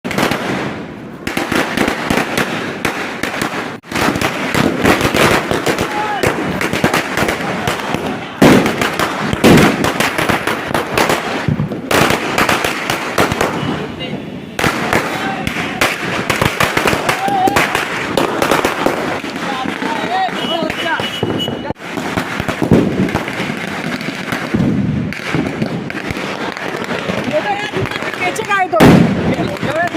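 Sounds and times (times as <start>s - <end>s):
firecrackers crackling: 0.0s - 29.9s
loud bangs: 0.1s - 29.9s.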